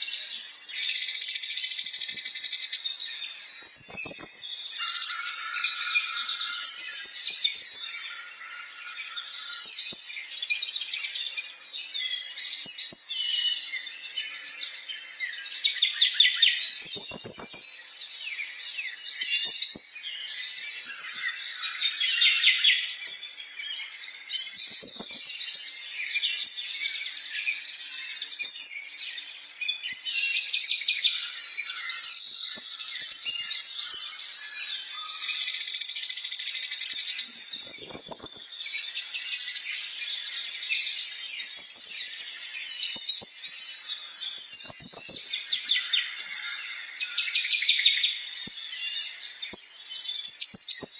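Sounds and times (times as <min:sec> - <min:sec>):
small birds chirping and trilling: 0:00.0 - 0:50.9.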